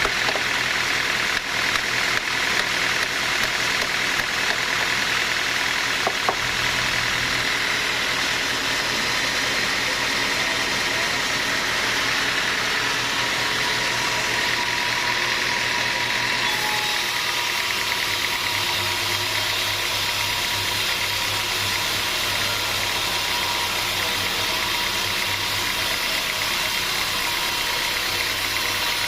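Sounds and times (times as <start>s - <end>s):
sawmill machinery drone: 0.0s - 29.0s.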